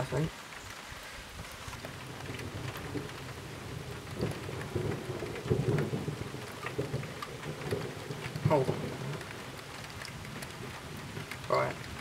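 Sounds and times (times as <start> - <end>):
heavy rain falling: 0.0 - 12.0
raindrops ticking close by: 0.0 - 12.0
low thunder rumble: 1.8 - 12.0.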